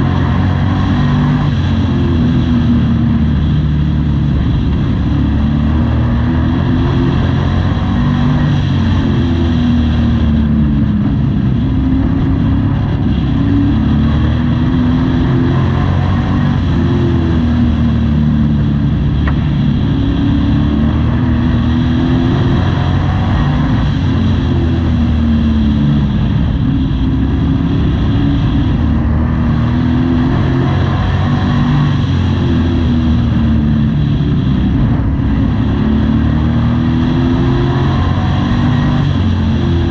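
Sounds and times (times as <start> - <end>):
road and wind noise: 0.0 - 39.9
race truck engine revving: 4.3 - 39.9.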